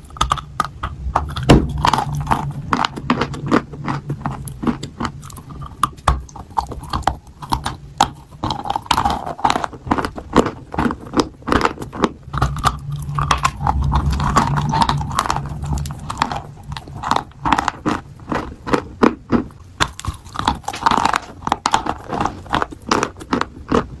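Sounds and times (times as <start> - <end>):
chewing chalk crunches: 0.0 - 24.0.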